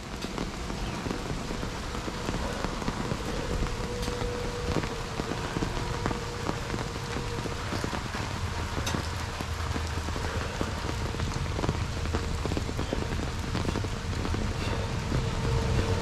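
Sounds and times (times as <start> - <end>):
raindrops ticking on umbrella: 0.0 - 16.0
steady rain: 0.0 - 16.0.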